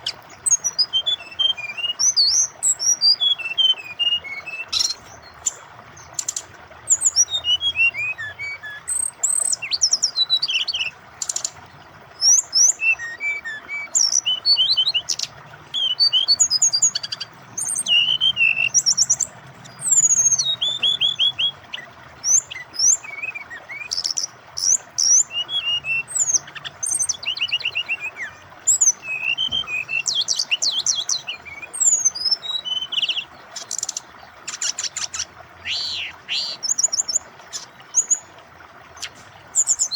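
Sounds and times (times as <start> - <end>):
bird song chirps and trills: 0.0 - 39.9
flowing water hiss: 0.0 - 39.9.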